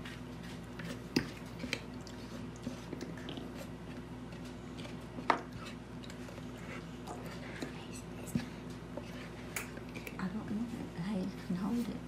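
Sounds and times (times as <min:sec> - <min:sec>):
batter squishing from bowl: 0:00.0 - 0:12.0
steady low hum: 0:00.0 - 0:12.0.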